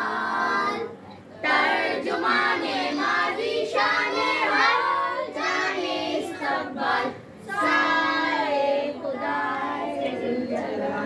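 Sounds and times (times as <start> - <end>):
children singing in unison: 0.0 - 10.3.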